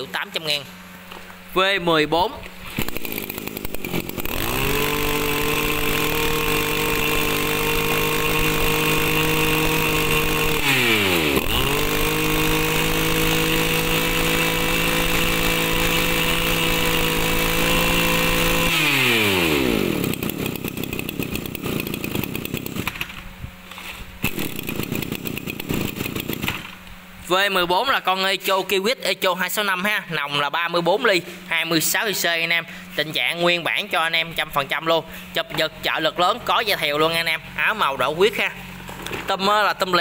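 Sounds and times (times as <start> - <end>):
brush cutter engine revving: 1.6 - 28.5, 31.3 - 40.0.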